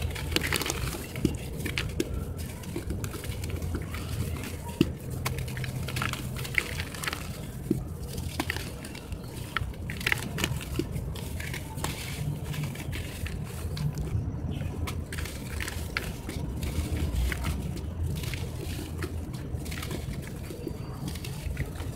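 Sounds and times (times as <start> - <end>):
blocks crumbling in hands: 0.0 - 21.9.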